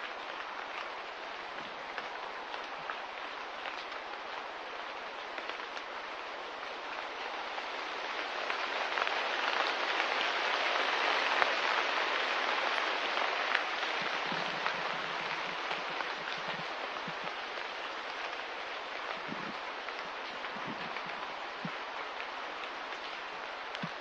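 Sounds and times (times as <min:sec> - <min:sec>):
drips and ticks: 0:00.0 - 0:24.0
rain-like hiss: 0:00.0 - 0:24.0.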